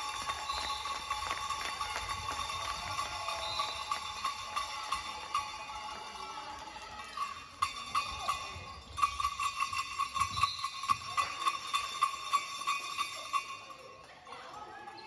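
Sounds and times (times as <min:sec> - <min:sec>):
handheld bell ringing: 0:00.0 - 0:15.0.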